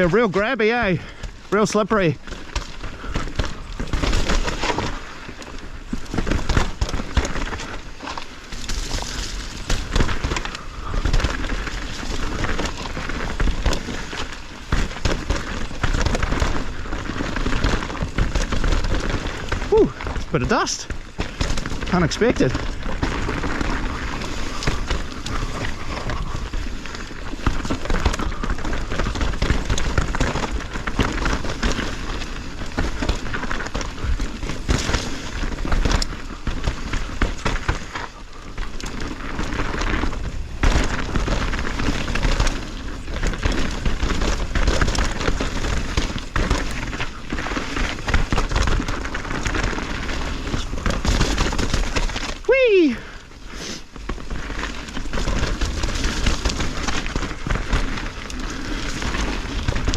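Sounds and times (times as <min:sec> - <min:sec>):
bike knocking and rattling: 0:00.0 - 0:59.9
bike tyre riding noise: 0:00.0 - 0:59.9.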